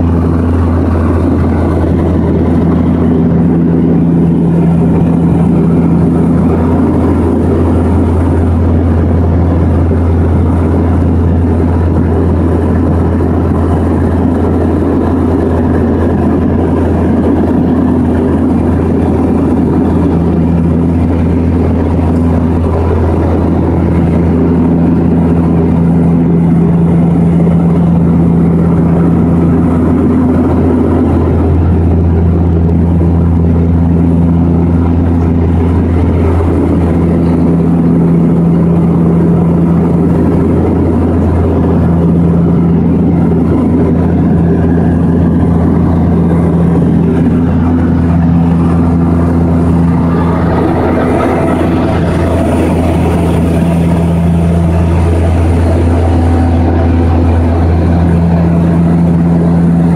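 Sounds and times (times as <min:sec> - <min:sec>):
plane engines droning in cabin: 0:00.0 - 0:59.9.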